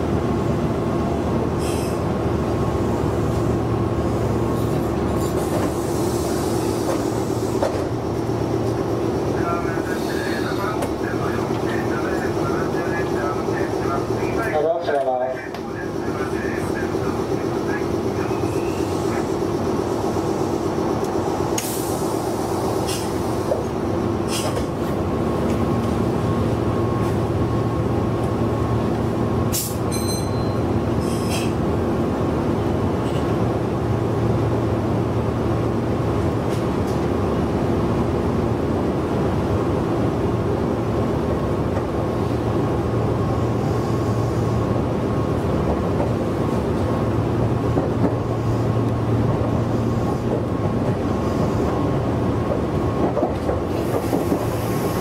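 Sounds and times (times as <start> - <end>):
train motors and wheels rumbling: 0.0 - 55.0.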